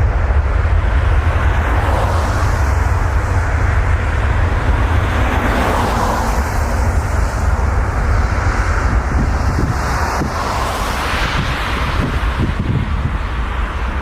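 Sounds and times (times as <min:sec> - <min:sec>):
jet airliner passing: 0:00.0 - 0:14.0
wind rumble on microphone: 0:00.0 - 0:14.0.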